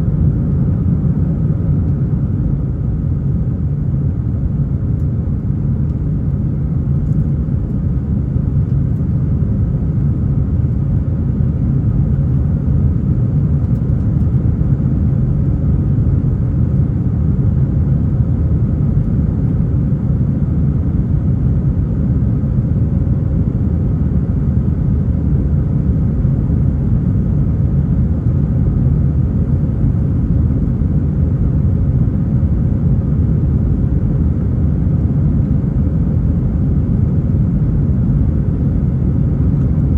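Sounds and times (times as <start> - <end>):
jet airliner engine rumble: 0.0 - 39.9.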